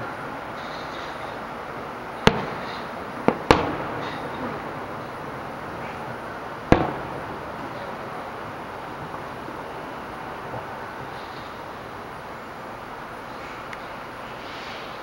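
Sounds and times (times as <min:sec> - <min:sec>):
steady background hiss: 0:00.0 - 0:15.0
firework shells bursting: 0:02.2 - 0:15.0.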